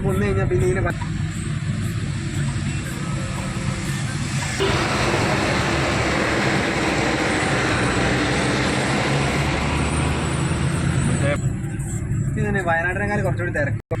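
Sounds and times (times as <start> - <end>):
car engine hum: 0.0 - 13.8
wind and road noise: 0.0 - 13.8.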